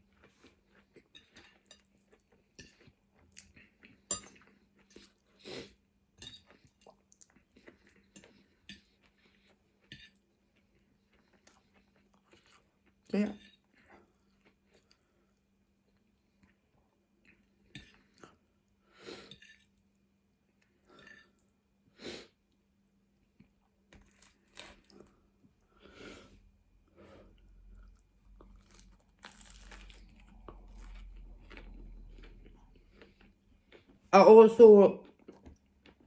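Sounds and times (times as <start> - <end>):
person chewing: 0.0 - 18.5, 23.4 - 26.3, 27.3 - 34.1, 35.0 - 36.0.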